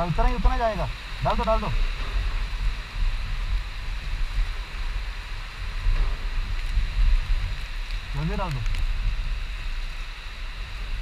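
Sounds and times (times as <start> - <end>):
heavy rain: 0.0 - 11.0
wind buffeting microphone: 0.0 - 11.0.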